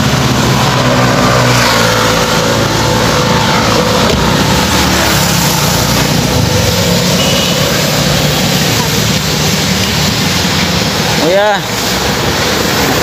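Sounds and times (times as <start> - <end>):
traffic noise: 0.0 - 13.0
vehicle engine running: 0.0 - 13.0.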